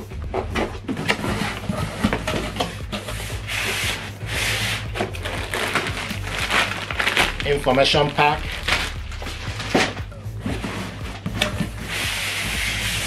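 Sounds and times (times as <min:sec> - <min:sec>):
cardboard flaps scraping: 0:00.0 - 0:13.0.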